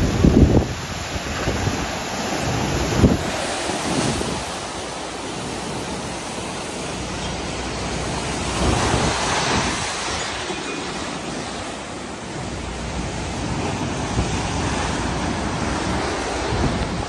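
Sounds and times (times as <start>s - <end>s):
strong wind on microphone: 0.0s - 6.2s, 7.6s - 17.0s
waves crashing over a seawall: 0.0s - 17.0s.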